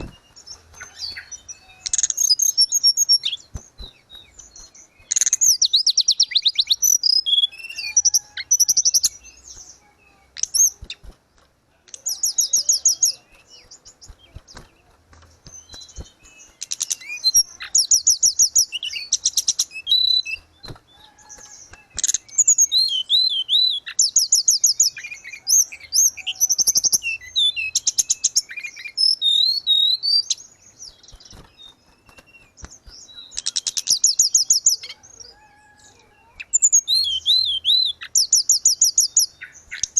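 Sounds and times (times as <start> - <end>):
songbird trilling and whistling: 0.0 - 11.1, 11.9 - 39.9.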